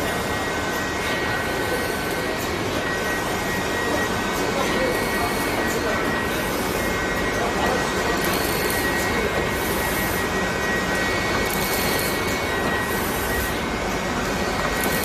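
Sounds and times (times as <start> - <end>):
machine roar with high whine: 0.0 - 15.0.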